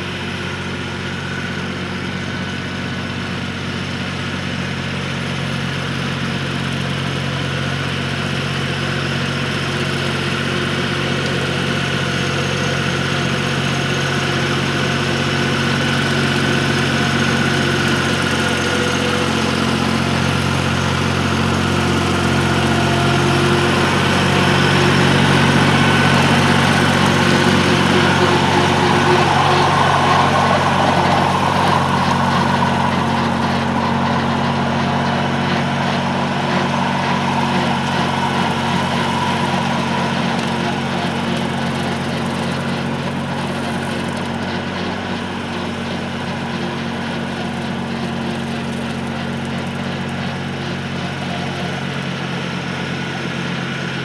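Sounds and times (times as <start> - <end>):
tractor diesel engine running: 0.0 - 54.0
rotary cutter shredding weeds: 7.3 - 54.0.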